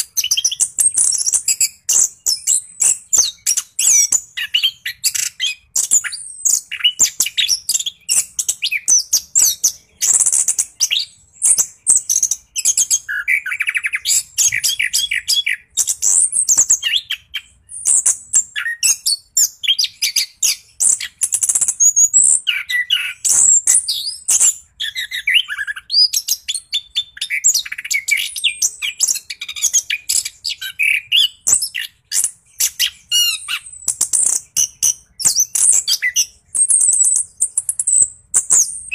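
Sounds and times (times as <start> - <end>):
thrush singing high chirps and trills: 0.0 - 38.9.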